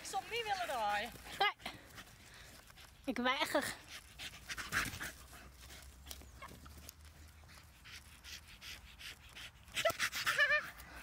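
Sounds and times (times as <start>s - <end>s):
dog panting hard: 0.0s - 11.0s.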